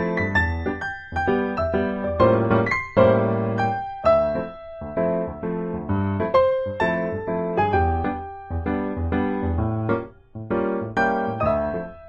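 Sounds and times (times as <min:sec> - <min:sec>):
lo-fi keyboard music: 0:00.0 - 0:12.0.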